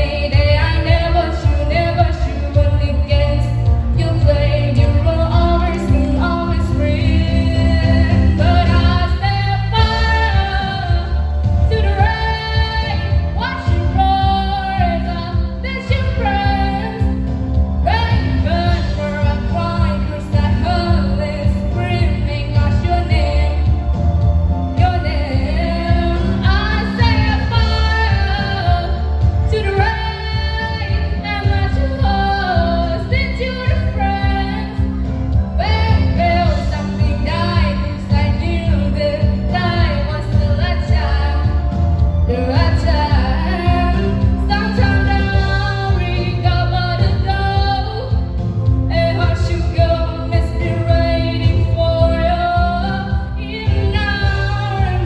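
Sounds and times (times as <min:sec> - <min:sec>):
girl singing a pop ballad: 0:00.0 - 0:55.0
instrumental backing: 0:00.0 - 0:55.0.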